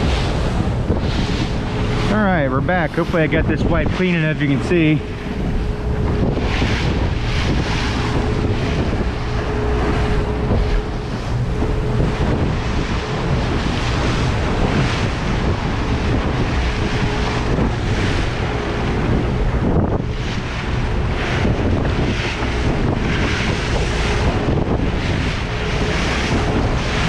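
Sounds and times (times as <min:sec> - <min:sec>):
water splashing along boat hull: 0:00.0 - 0:27.0
wind buffeting microphone: 0:00.0 - 0:27.0.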